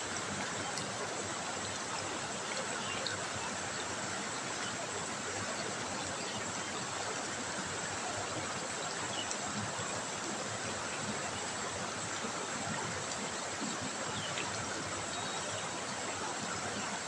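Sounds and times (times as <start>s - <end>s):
river water running over stones: 0.0s - 17.0s.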